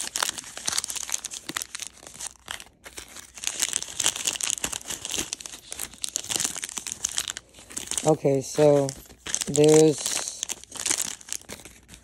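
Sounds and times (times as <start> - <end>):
plastic tearing: 0.0 - 12.0
plastic wrappers crinkling: 0.0 - 12.0.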